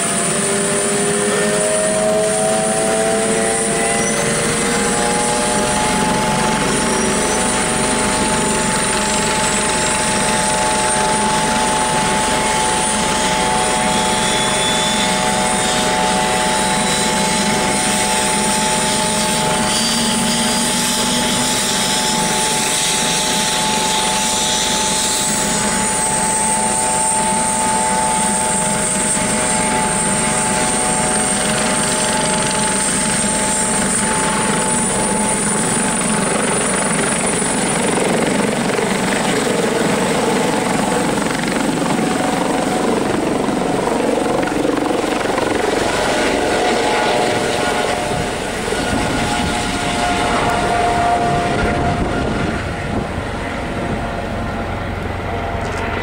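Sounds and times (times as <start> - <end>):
drone propeller motors whining: 0.0 - 56.0.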